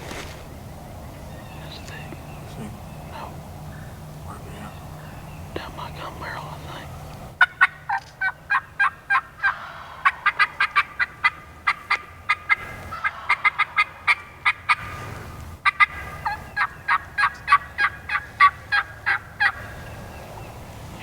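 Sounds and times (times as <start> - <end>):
wild turkey calling: 0.1 - 20.7.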